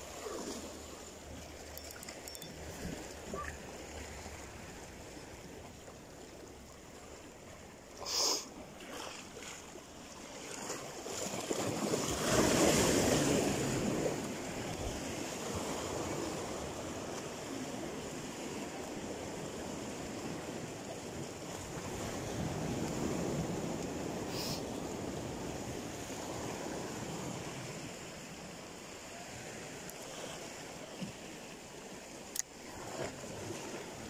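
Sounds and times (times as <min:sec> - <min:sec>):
sea waves on rocky shore: 0:00.0 - 0:34.0.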